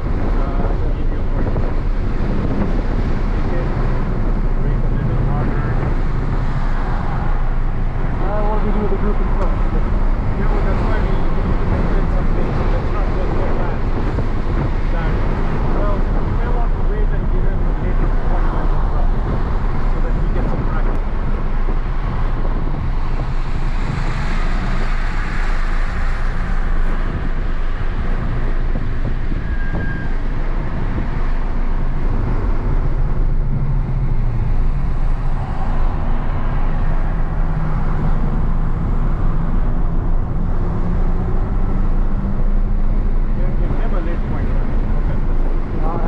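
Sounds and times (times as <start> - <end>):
car engine at speed: 0.0 - 46.0
tyre and wind noise: 0.0 - 46.0.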